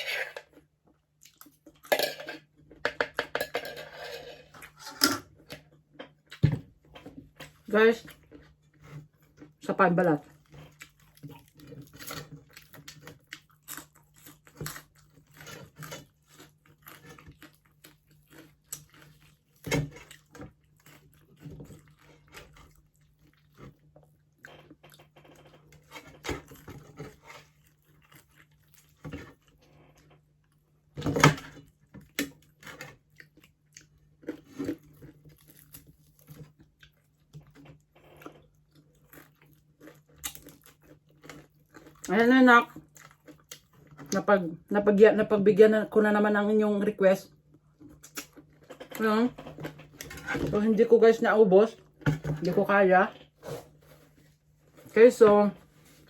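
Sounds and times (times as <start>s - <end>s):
chewing crispy food: 0.0s - 2.8s, 4.6s - 44.9s, 47.2s - 50.9s.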